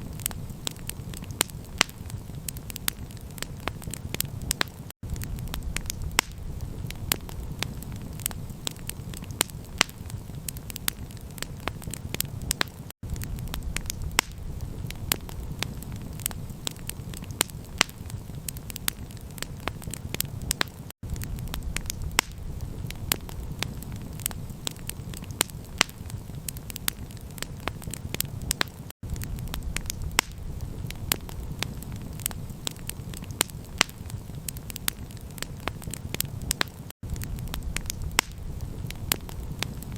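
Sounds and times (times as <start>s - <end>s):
campfire crackling and popping: 0.0s - 39.9s
low fire rumble: 0.0s - 39.9s.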